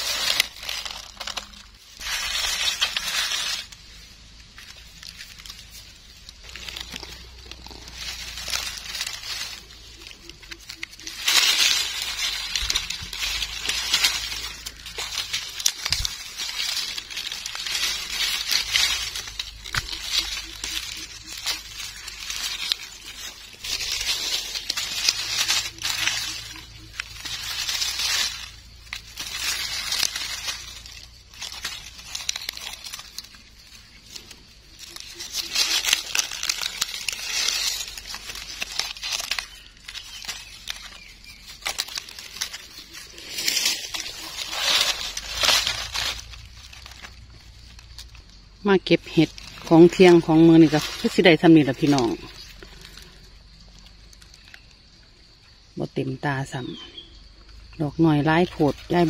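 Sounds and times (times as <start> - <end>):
dry leaves rustling and crackling: 0.0 - 59.0.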